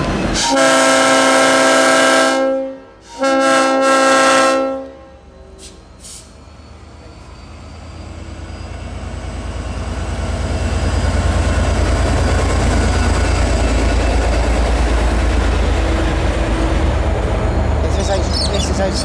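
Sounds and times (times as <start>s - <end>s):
diesel locomotive engine pulsing: 0.0s - 19.0s.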